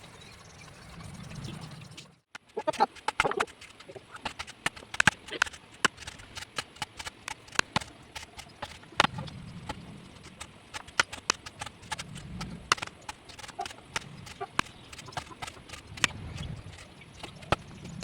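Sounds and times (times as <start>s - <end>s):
mallet tapping carving chisel: 2.4s - 18.0s.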